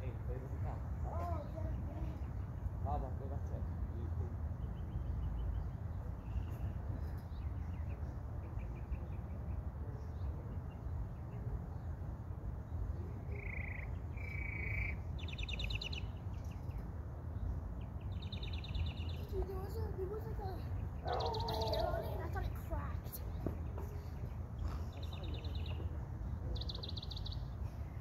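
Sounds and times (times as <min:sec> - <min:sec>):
low background rumble: 0:00.0 - 0:28.0
small songbirds chirping: 0:00.0 - 0:28.0.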